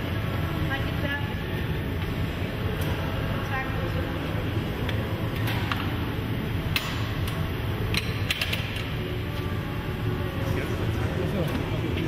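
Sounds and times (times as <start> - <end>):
furnaces and blowers humming: 0.0 - 12.0.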